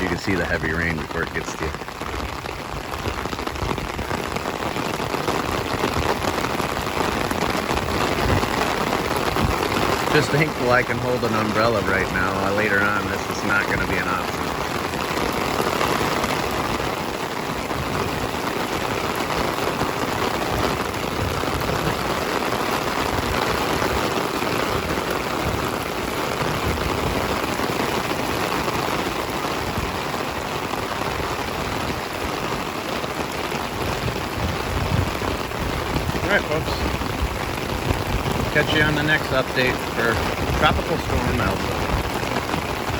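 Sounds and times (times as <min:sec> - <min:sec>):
heavy rain on an umbrella: 0:00.0 - 0:42.9.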